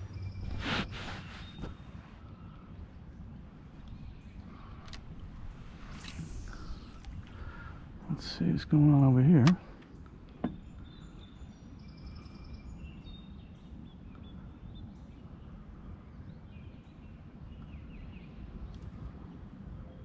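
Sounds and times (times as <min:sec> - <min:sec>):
birds singing and chirping: 0:00.0 - 0:18.8
steady low rumble: 0:00.0 - 0:20.0.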